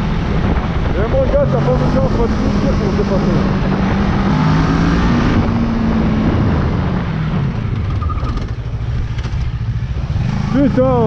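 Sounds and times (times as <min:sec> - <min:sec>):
wind noise: 0:00.0 - 0:10.5
motorcycle engine running: 0:00.0 - 0:11.0.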